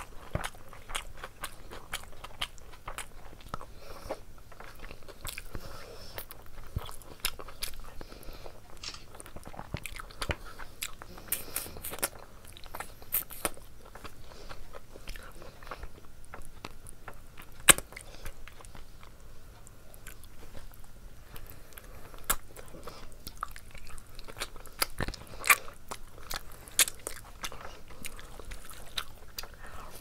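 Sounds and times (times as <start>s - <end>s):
chewing and biting: 0.0s - 30.0s
food crunching: 0.0s - 30.0s.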